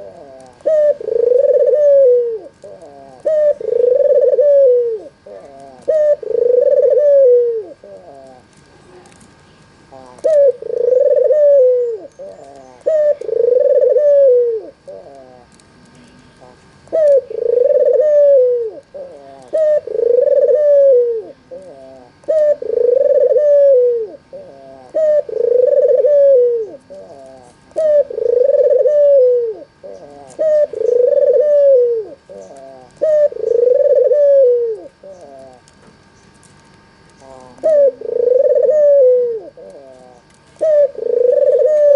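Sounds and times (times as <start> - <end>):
dove cooing: 0.0 - 9.2, 9.8 - 35.8, 37.1 - 41.9.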